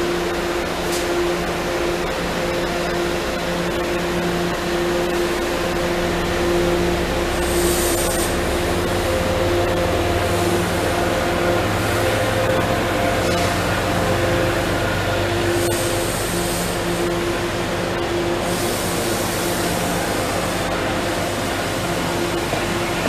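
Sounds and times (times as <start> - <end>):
train droning with humming tones: 0.0 - 23.0
wheels rumbling on rails: 0.0 - 23.0.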